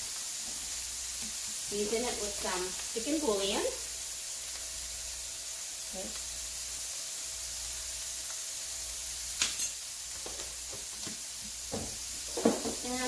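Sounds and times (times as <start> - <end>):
shrimp sizzling in oil: 0.0 - 13.0.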